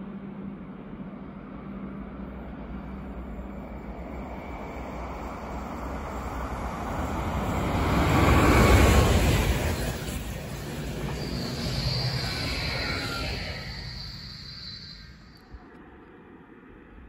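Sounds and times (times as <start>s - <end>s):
passenger train passing: 0.0s - 15.6s.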